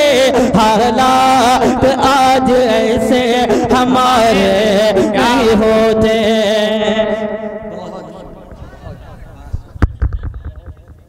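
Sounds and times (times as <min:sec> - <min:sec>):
man singing through loudspeaker: 0:00.0 - 0:09.1.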